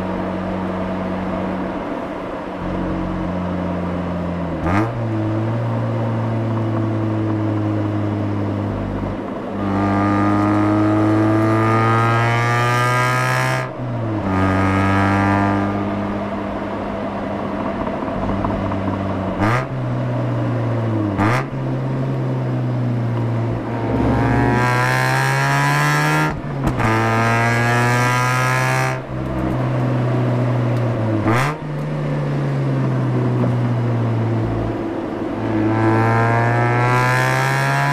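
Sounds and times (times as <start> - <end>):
rotary engine exhaust accelerating: 0.0 - 37.9.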